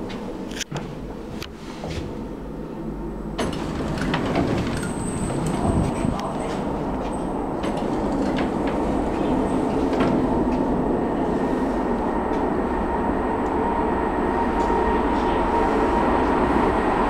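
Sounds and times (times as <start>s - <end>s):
train rumbling in tunnel: 0.0s - 17.0s.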